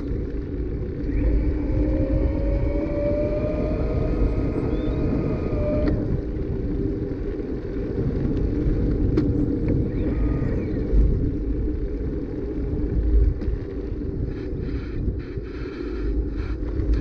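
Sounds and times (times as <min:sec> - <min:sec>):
bicycle tyre and wind rumble: 0:00.0 - 0:17.0.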